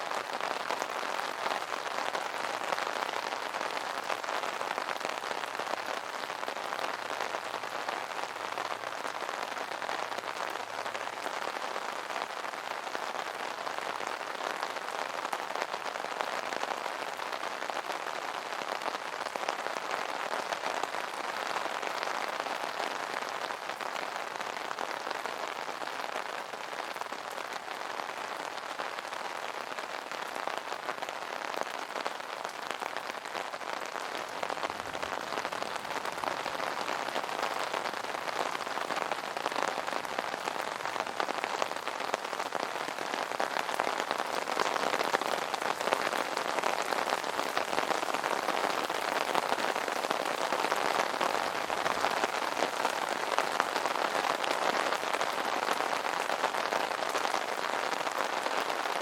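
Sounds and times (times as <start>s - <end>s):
rain pattering on an umbrella: 0.0s - 59.0s.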